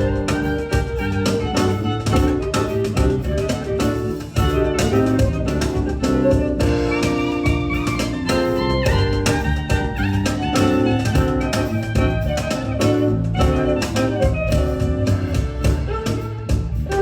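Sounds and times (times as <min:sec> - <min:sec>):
bowed strings melody: 0:00.0 - 0:17.0
steady beat: 0:00.0 - 0:17.0.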